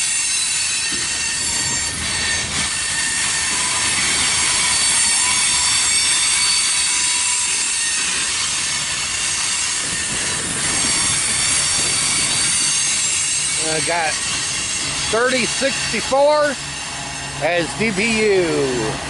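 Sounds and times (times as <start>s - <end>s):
freight train rolling past: 0.0s - 19.0s
train wheels squealing: 0.0s - 19.0s.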